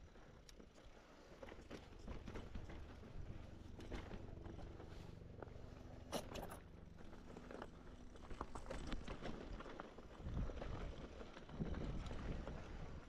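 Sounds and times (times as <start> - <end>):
clicks and crunches over rough ground: 1.4 - 13.0.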